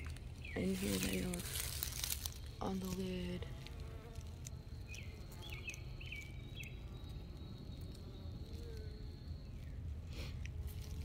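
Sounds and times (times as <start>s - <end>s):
honey bees humming: 0.0s - 11.0s.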